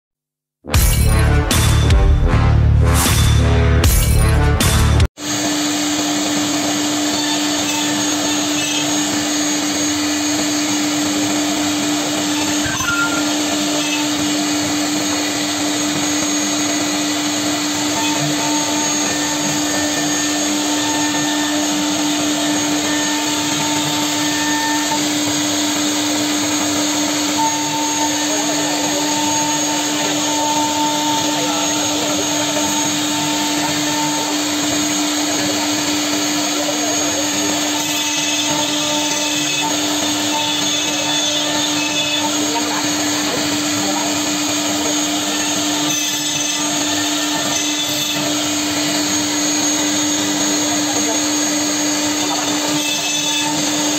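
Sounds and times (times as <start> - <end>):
router spindle whining: 3.2 - 53.9
dust extraction hose rushing: 4.6 - 53.9.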